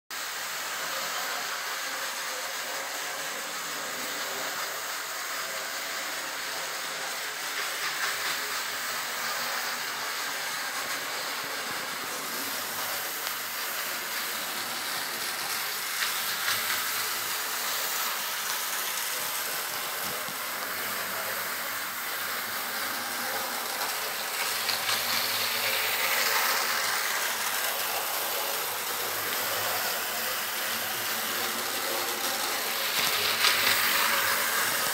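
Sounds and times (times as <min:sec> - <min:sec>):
trains hissing: 0:00.2 - 0:34.9.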